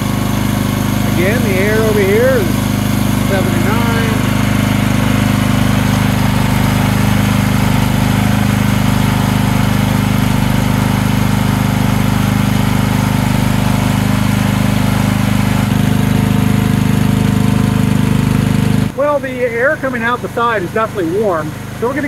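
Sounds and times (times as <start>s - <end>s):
excavator engine idling: 0.0s - 22.0s.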